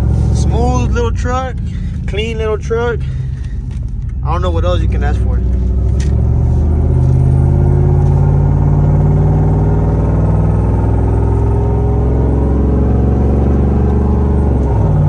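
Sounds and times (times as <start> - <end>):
road rumble: 0.0 - 15.0
truck engine humming: 0.0 - 15.0.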